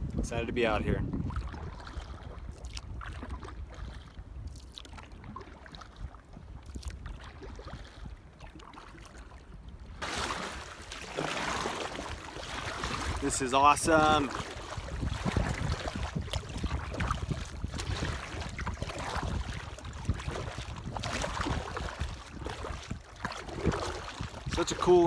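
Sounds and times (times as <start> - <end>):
paddle strokes through water: 0.0 - 25.0
water lapping against kayak hull: 0.0 - 25.0
wind rumbling on microphone: 0.0 - 25.0.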